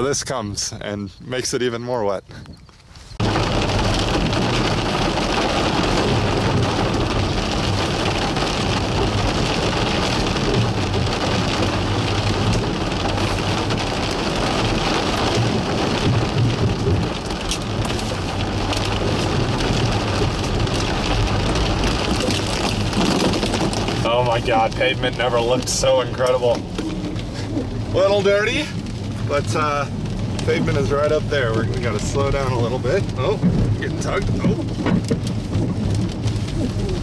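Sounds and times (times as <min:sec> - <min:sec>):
rain on car windshield and roof: 0:00.0 - 0:37.0
tyres rumbling on wet road: 0:00.0 - 0:37.0.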